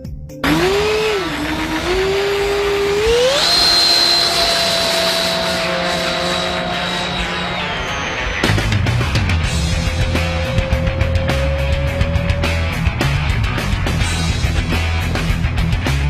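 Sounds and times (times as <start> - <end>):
electric ducted fans whining: 0.4 - 14.9.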